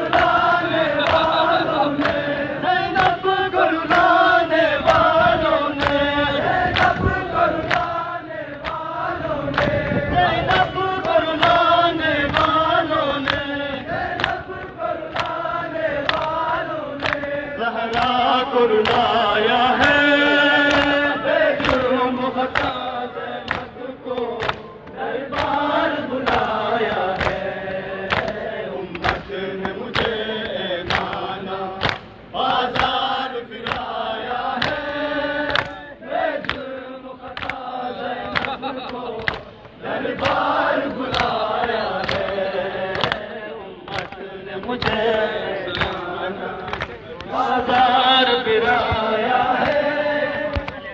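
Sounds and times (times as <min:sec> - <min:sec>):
men chanting together: 0:00.0 - 0:50.9
rhythmic chest slaps: 0:00.0 - 0:50.9.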